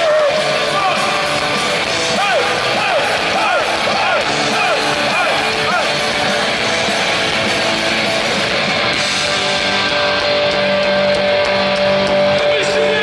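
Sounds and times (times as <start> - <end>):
punk rock band playing live: 0.0 - 13.0.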